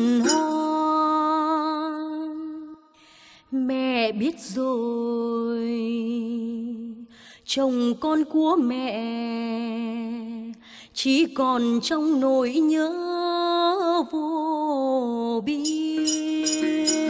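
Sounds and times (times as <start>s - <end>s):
woman singing folk song: 0.0s - 17.0s.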